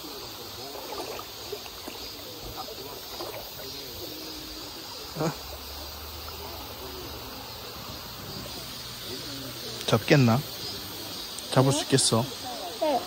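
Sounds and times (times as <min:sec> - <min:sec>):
faint distant voices: 0:00.0 - 0:13.0
high insect drone: 0:00.0 - 0:13.0
mountain stream running: 0:00.0 - 0:13.0.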